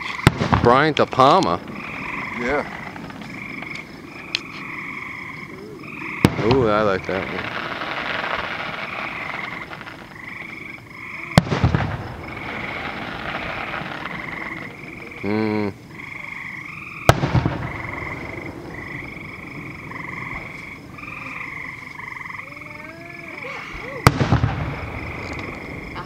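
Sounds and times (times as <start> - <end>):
distant firework bursts: 0.0 - 26.0
high trilling night calls: 0.0 - 26.0.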